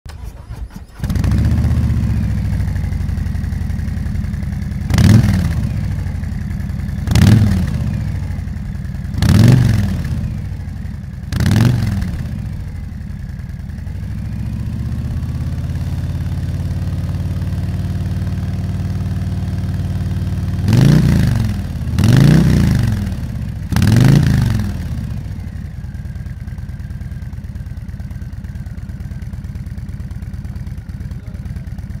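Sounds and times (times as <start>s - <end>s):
motorcycle engine idling and revving: 0.1s - 32.0s.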